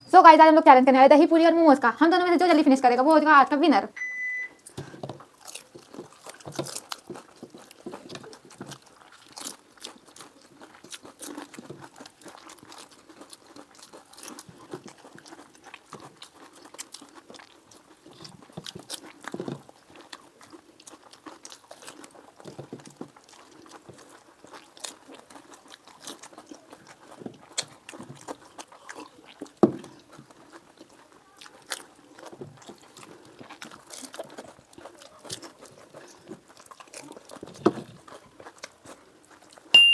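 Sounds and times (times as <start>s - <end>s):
crunching and chewing food: 1.3s - 39.8s.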